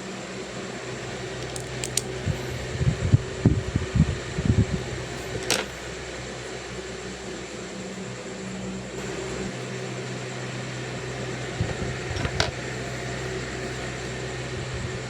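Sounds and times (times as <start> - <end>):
steady white noise: 0.0 - 15.0.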